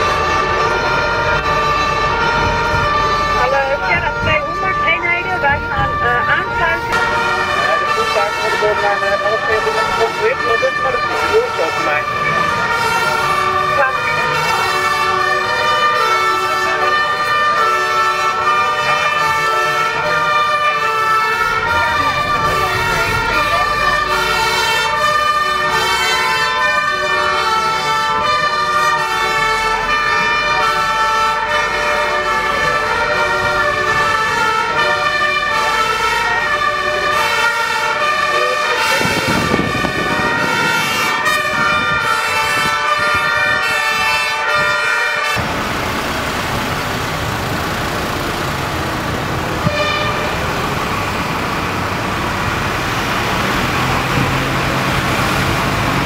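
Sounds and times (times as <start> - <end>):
two-tone sirens: 0.0 - 56.0
vehicle and road noise: 0.0 - 56.0.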